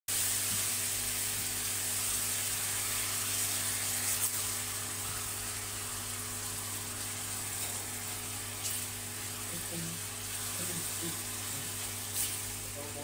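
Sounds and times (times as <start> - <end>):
low electrical hum: 0.1 - 13.0
vegetables sizzling in frying pan: 0.1 - 13.0.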